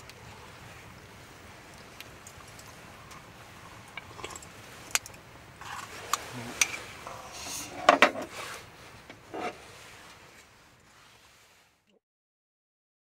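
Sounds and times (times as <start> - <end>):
rustling: 0.0 - 11.9.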